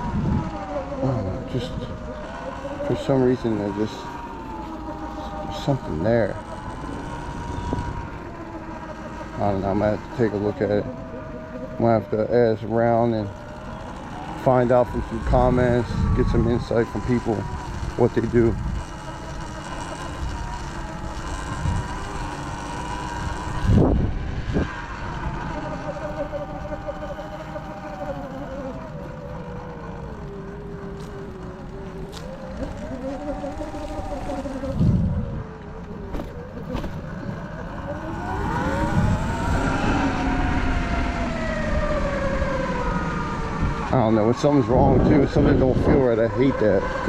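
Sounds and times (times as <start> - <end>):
wind noise on microphone: 0.0 - 11.0, 11.8 - 47.0
electric motorbike motor whine: 0.0 - 47.0.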